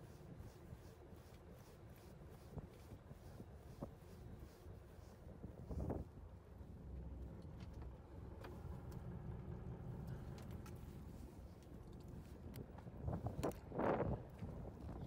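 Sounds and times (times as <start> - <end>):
boat engine rumbling: 0.2 - 15.0.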